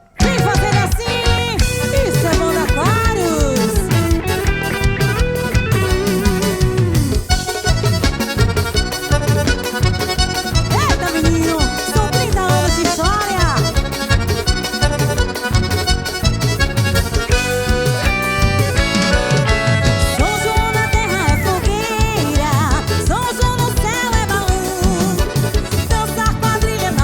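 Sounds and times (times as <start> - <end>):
accordion melody: 0.0 - 27.0
bass: 0.0 - 27.0
fast drum beat: 0.2 - 27.0.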